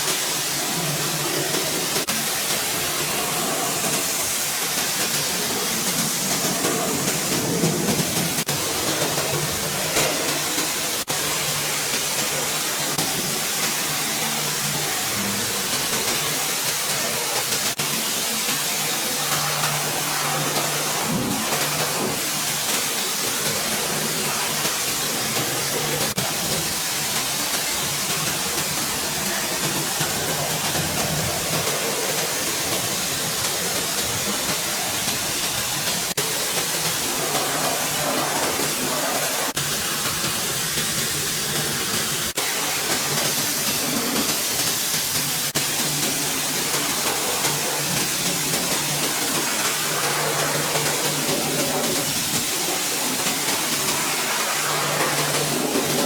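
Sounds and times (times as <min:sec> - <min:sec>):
car-cleaning tool hissing: 0:00.0 - 0:56.0.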